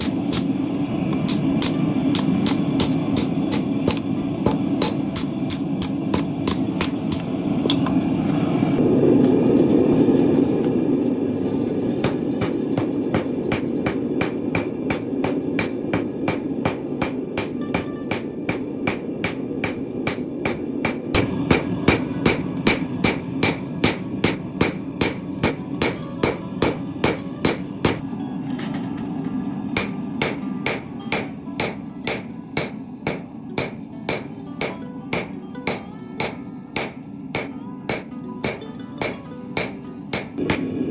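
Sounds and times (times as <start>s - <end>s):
hammer striking steel on anvil: 0.0s - 8.0s, 12.0s - 40.8s.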